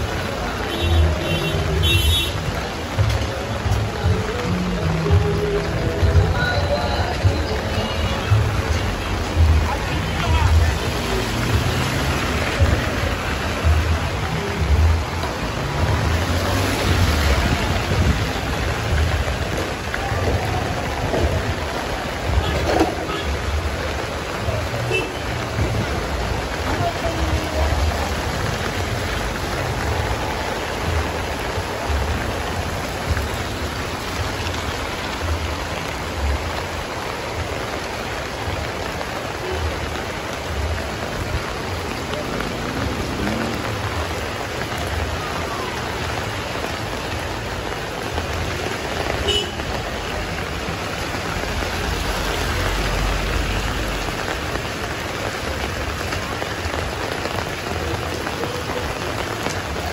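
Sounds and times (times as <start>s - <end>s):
heavy rain on wet street: 0.0s - 59.9s.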